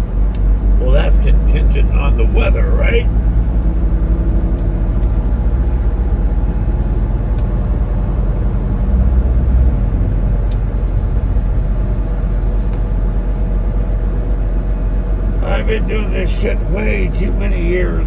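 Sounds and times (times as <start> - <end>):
truck diesel engine rumble: 0.0 - 18.0.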